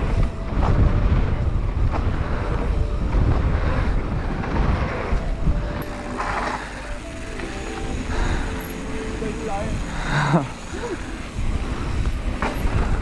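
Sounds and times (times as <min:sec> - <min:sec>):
tyres rolling on dirt trail: 0:00.0 - 0:13.0
wind buffeting microphone: 0:00.0 - 0:13.0.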